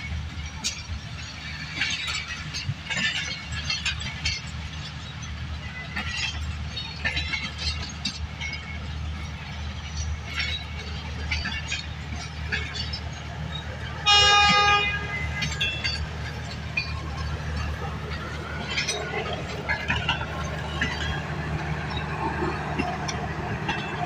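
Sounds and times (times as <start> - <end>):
train low hum: 0.0 - 24.0
train wheels clanking and squealing: 0.0 - 24.0.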